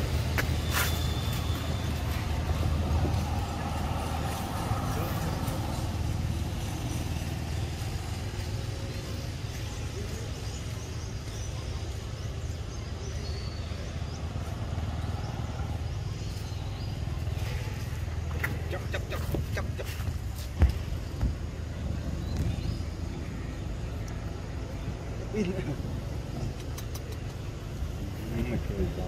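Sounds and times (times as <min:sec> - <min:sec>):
low engine-like rumble: 0:00.0 - 0:29.0.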